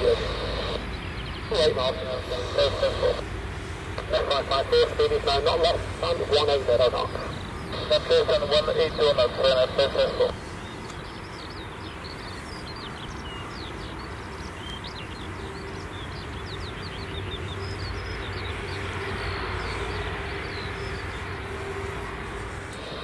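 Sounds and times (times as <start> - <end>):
distant jet engines rumbling: 0.0 - 23.0
small birds chirping: 0.0 - 23.0.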